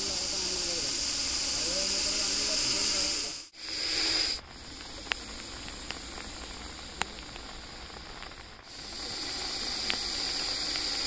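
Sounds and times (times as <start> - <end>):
snake hissing: 0.0 - 11.0.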